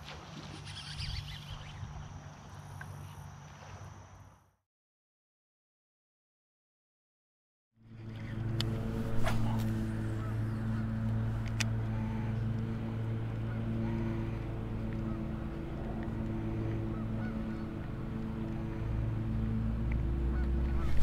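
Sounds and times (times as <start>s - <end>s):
boat motor humming: 0.2s - 4.5s, 7.8s - 21.0s.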